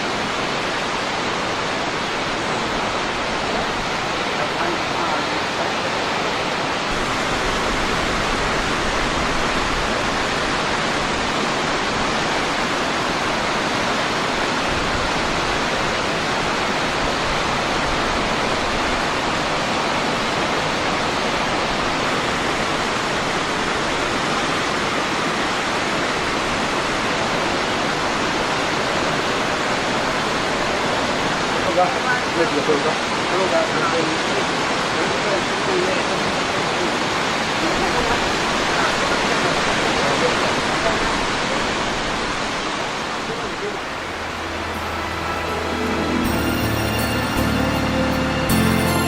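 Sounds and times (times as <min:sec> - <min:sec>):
waterfall roaring: 0:00.0 - 0:49.0.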